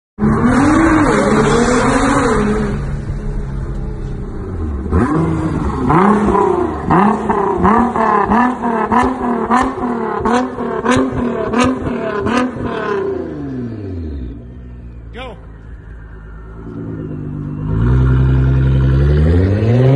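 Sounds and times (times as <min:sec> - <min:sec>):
car engine revving: 0:00.2 - 0:19.9.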